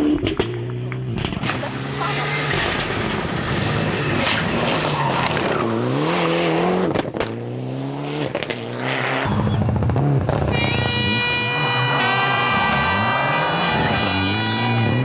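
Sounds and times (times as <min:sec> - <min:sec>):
car engine revving at full throttle: 0:00.0 - 0:15.0.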